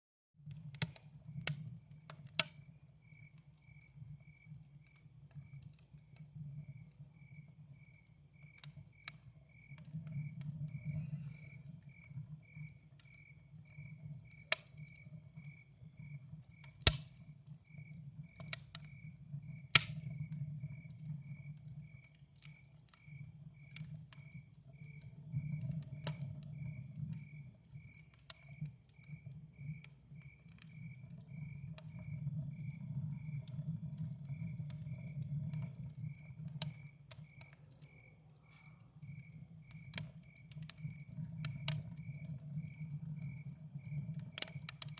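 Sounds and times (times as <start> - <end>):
campfire crackling and popping: 0.4 - 44.9.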